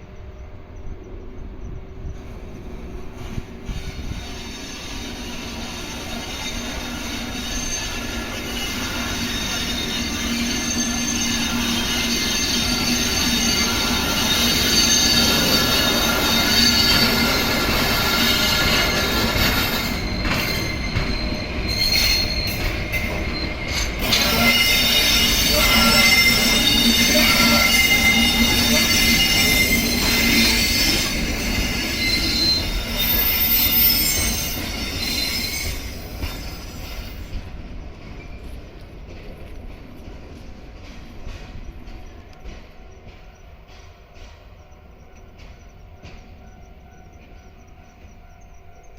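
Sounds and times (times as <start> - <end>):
train rumbling on rails: 0.0 - 48.9
train wheels squealing: 0.0 - 48.9.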